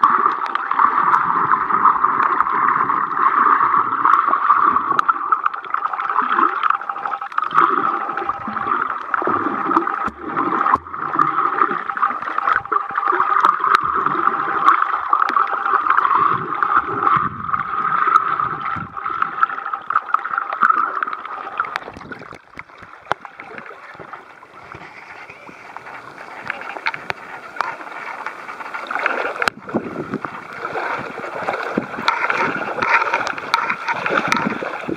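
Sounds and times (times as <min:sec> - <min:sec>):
gentle water sounds: 0:00.0 - 0:34.9
underwater rushing drone: 0:00.0 - 0:34.9
water gurgling: 0:00.0 - 0:34.9.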